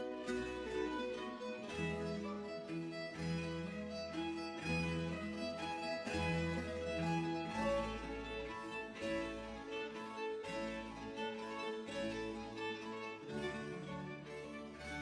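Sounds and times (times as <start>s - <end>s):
bowed strings with cello: 0.0s - 15.0s.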